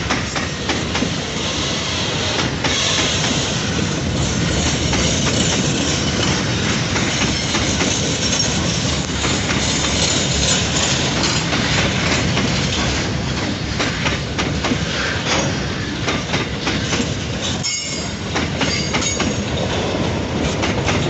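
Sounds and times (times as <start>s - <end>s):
train wheels clacking: 0.0s - 21.0s.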